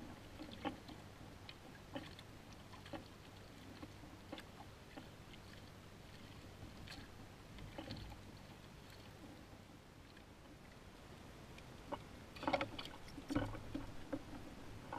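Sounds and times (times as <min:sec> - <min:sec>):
water sloshing: 0:00.0 - 0:14.9.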